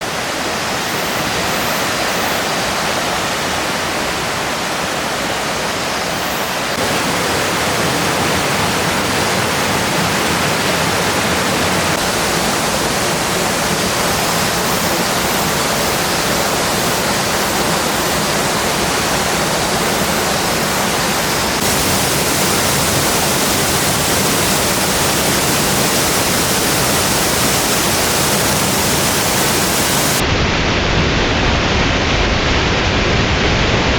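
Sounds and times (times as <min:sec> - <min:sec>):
waterfall crashing: 0:00.0 - 0:33.7.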